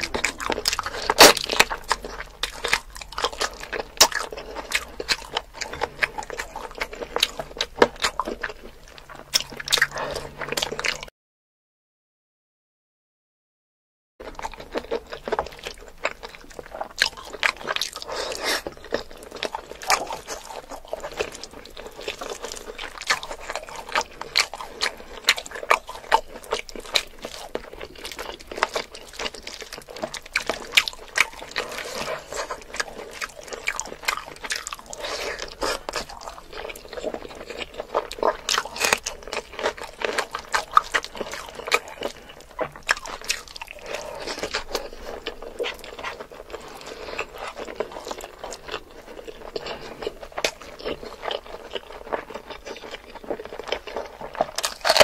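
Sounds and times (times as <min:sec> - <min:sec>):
wet chewing and lip smacking: 0:00.0 - 0:11.1, 0:14.2 - 0:55.0.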